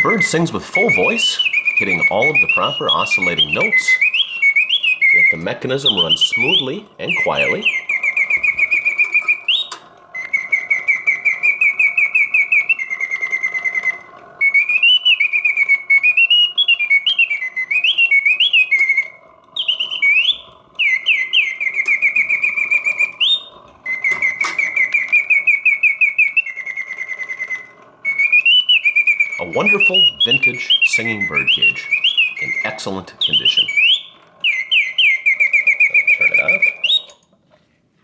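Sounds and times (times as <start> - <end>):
mechanical bird whistle trilling: 0.0 - 37.4.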